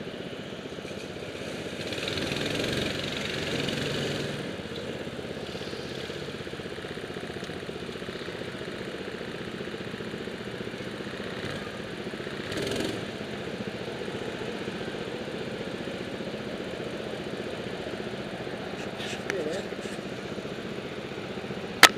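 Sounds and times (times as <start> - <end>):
go-kart engines idling: 0.0 - 21.9.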